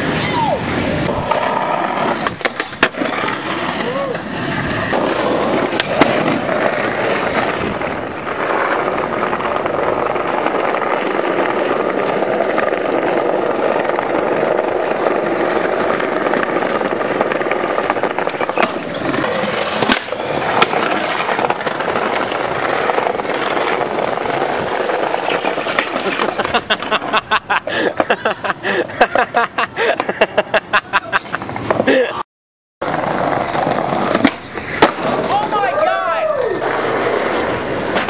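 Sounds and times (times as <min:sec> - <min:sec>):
skateboard wheels rolling on brick: 0:00.0 - 0:32.1, 0:32.8 - 0:38.0
skateboard clacks: 0:01.1 - 0:28.4, 0:32.8 - 0:38.0.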